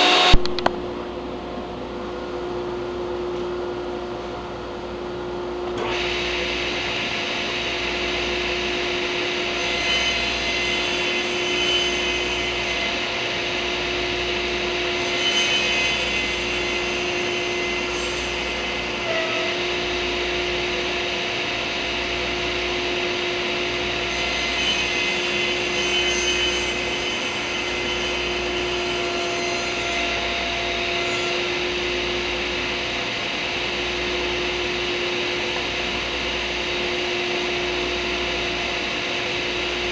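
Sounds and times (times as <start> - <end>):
table saw cutting wood: 0.0 - 0.5, 5.8 - 39.9.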